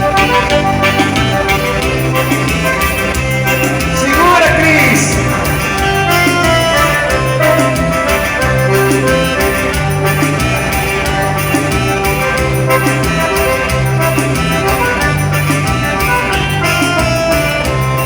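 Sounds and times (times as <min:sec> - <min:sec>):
accordion: 0:00.0 - 0:18.0
bass line: 0:00.0 - 0:18.0
drum beat: 0:01.0 - 0:16.5.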